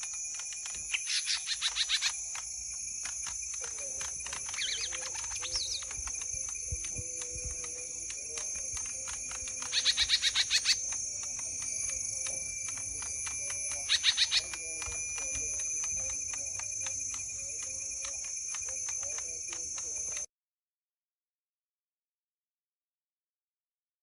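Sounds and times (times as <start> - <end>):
bird calling sharp notes: 0.0 - 20.2
faint regular ticks: 0.0 - 20.3
high-pitched ringing: 0.0 - 20.3.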